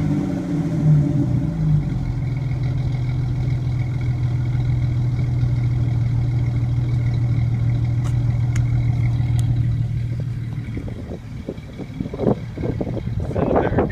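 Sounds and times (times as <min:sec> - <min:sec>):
deep engine exhaust note: 0:00.0 - 0:13.9.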